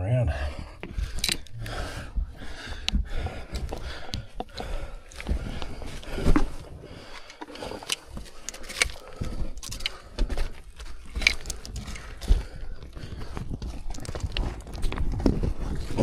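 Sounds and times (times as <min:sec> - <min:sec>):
close breathing: 0:00.0 - 0:16.0.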